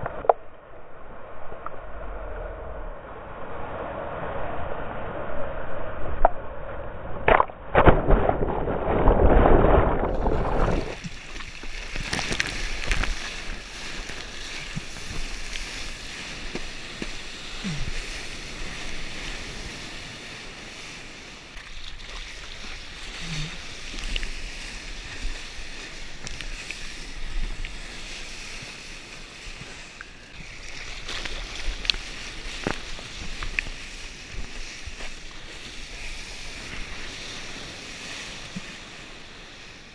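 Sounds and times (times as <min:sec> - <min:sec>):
wind: 0:00.0 - 0:39.9
whitewater rushing and splashing: 0:07.3 - 0:39.9.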